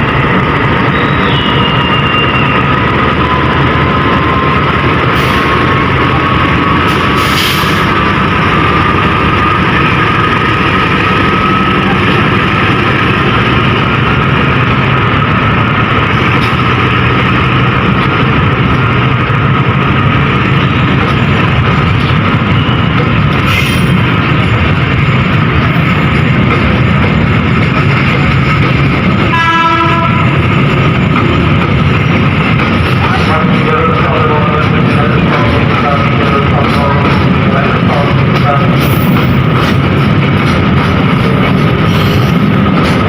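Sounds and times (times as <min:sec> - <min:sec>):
locomotive whine: 0:00.0 - 0:43.0
train carriages rolling: 0:00.0 - 0:43.0
train clanks: 0:00.0 - 0:43.0.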